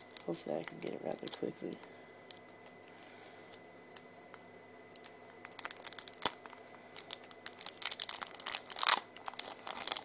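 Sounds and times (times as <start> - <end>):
foil wrappers crinkling: 0.0 - 3.4, 4.9 - 10.0.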